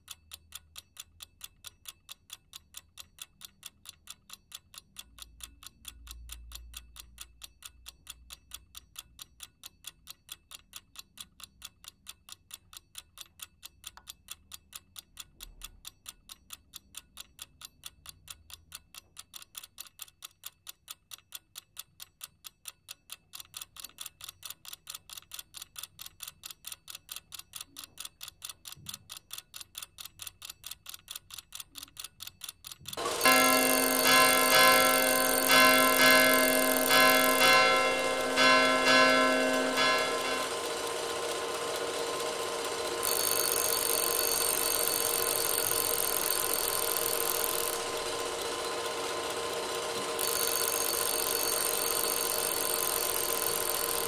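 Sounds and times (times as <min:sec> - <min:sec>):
fast steady ticking: 0:00.0 - 0:54.0.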